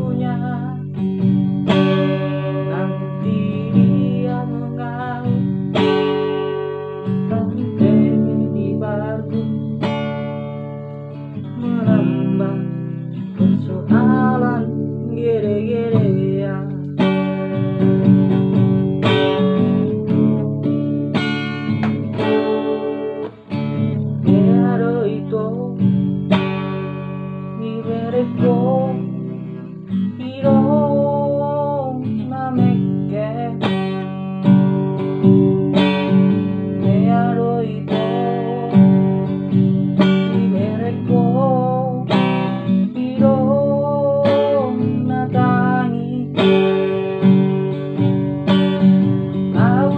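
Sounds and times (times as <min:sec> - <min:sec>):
acoustic guitar strumming chords: 0:00.0 - 0:49.9
person singing: 0:00.0 - 0:49.9.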